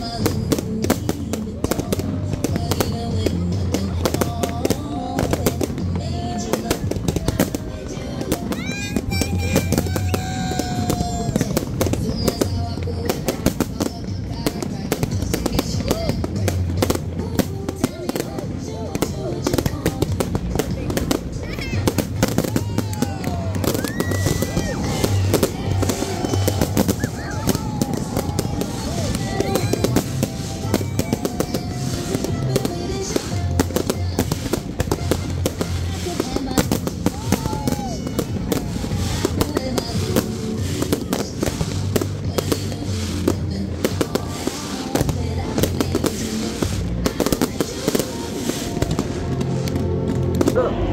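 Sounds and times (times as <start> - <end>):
fireworks bangs and crackles: 0.0 - 50.9
music playing: 0.0 - 50.9.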